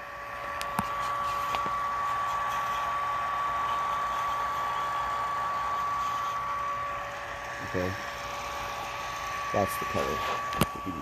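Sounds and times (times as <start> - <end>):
high-pitched electrical whine: 0.0 - 11.0.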